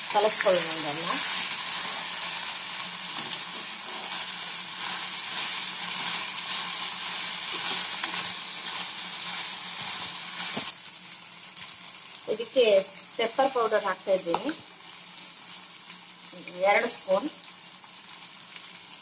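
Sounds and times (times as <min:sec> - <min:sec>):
meat sizzling in oil: 0:00.0 - 0:19.0.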